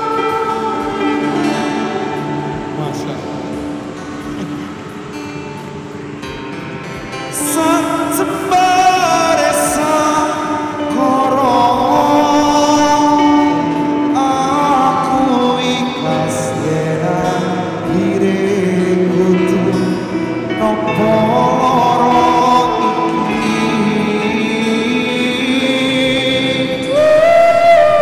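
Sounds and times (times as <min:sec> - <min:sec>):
person singing: 0:00.0 - 0:03.5, 0:07.2 - 0:28.0
band playing: 0:00.0 - 0:28.0.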